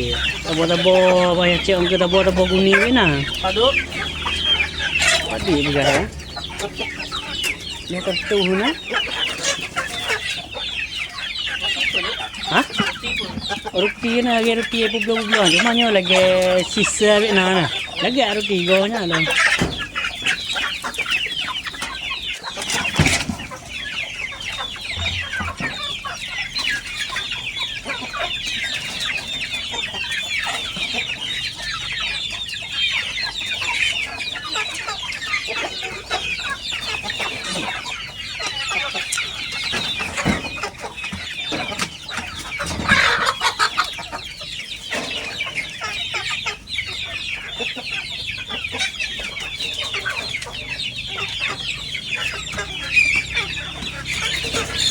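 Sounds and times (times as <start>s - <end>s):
chickens clucking and cheeping: 0.0s - 54.9s.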